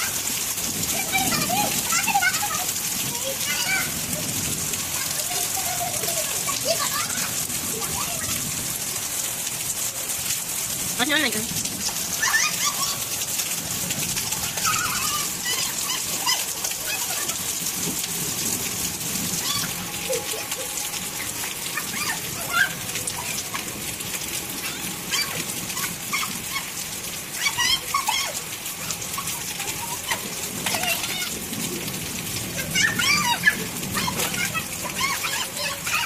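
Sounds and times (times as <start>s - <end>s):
children calling: 0.0s - 10.6s, 11.8s - 36.0s
rain on a tiled roof: 0.0s - 36.0s.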